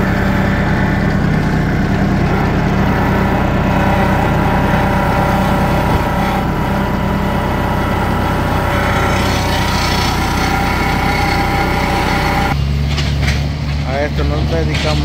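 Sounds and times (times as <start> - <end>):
tractor engine running steadily: 0.0 - 15.0.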